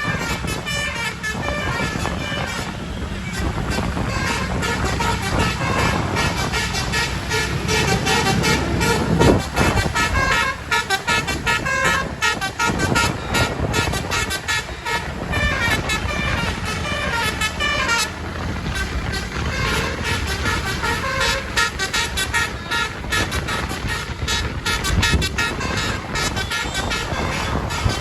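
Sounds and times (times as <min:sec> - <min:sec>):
diesel engine rumble: 0:00.0 - 0:28.0
multi-tone air horn tune: 0:00.0 - 0:28.0.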